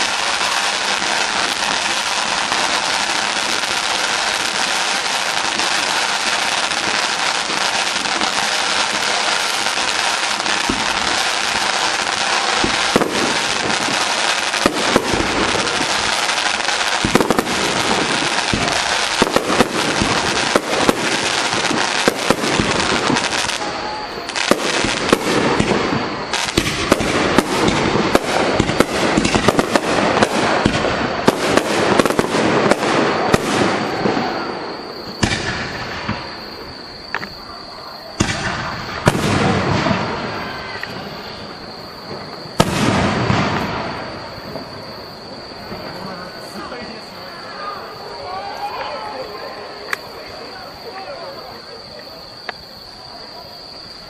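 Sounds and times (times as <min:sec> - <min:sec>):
firework shells bursting bangs: 0:00.0 - 0:37.4, 0:38.2 - 0:45.8
fireworks crackling hiss: 0:00.0 - 0:54.0.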